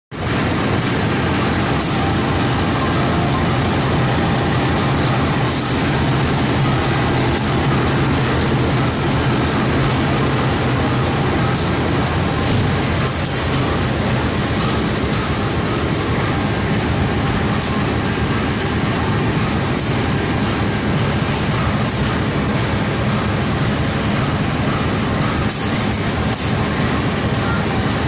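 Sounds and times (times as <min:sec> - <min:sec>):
diesel locomotive engine drone: 0:00.1 - 0:28.0.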